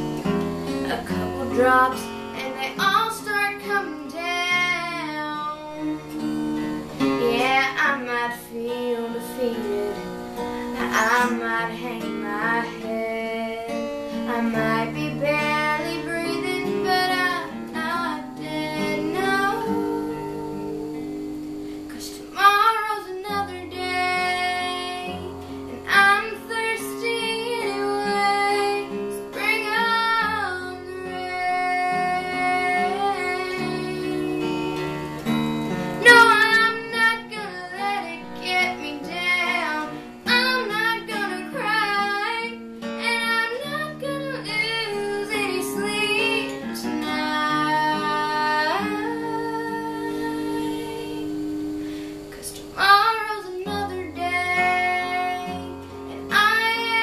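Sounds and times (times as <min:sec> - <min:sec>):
acoustic guitar: 0:00.0 - 0:57.0
girl singing slow song: 0:00.0 - 0:57.0.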